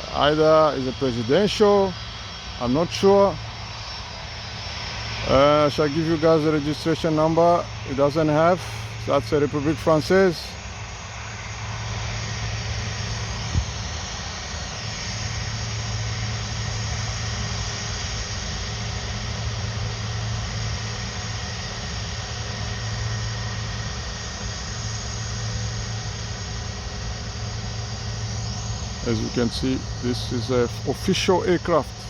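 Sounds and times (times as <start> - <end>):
jet engines idling: 0.0 - 32.0.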